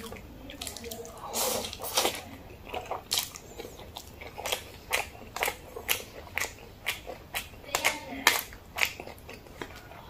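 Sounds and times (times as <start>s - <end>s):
close-miked chewing noodles: 0.0s - 10.0s.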